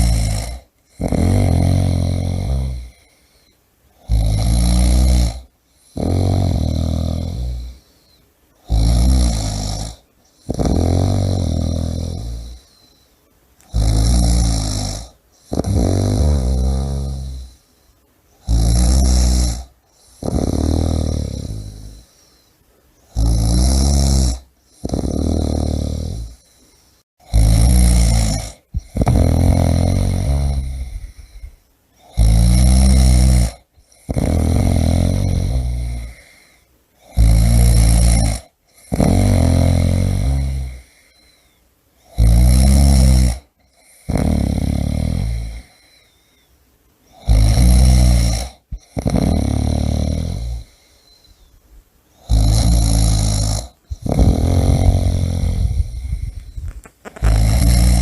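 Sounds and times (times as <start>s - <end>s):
person snoring: 0.0s - 13.0s, 13.6s - 17.8s, 18.4s - 22.5s, 23.1s - 46.2s, 47.1s - 51.5s, 52.2s - 58.0s.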